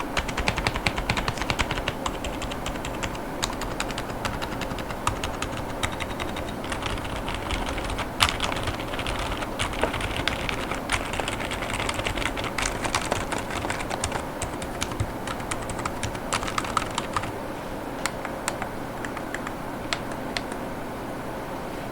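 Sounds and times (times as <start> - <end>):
typing on mechanical keyboard: 0.0 - 17.4, 18.1 - 20.6.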